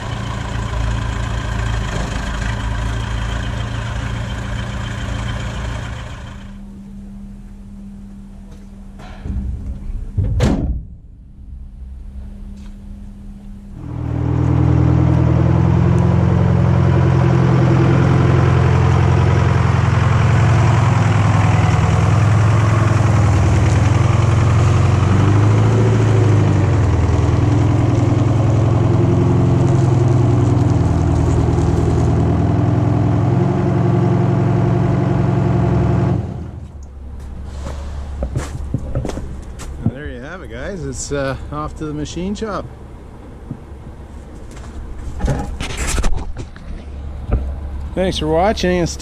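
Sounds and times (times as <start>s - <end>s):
vehicle engine idling: 0.0s - 10.2s, 11.0s - 45.6s, 46.5s - 49.0s.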